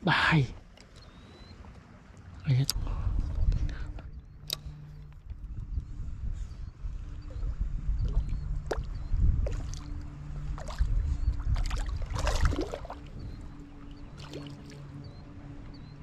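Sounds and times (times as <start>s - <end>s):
wind buffeting microphone: 2.6s - 16.0s.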